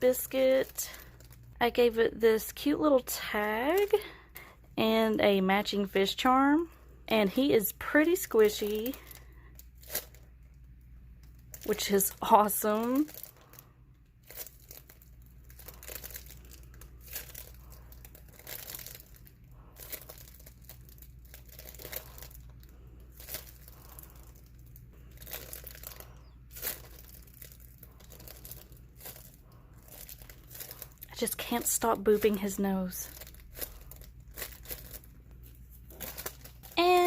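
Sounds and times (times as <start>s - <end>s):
steady low hum: 0.0s - 37.0s
squishy toy crinkling: 0.1s - 4.8s, 7.3s - 37.0s.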